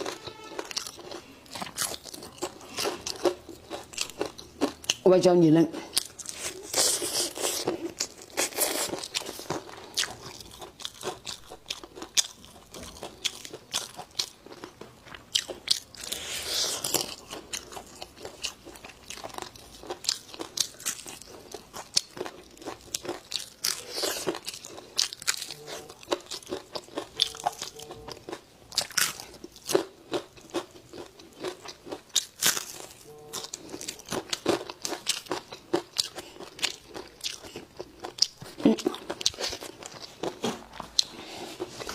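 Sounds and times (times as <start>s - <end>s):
crunching and chewing crisp food: 0.0s - 41.9s.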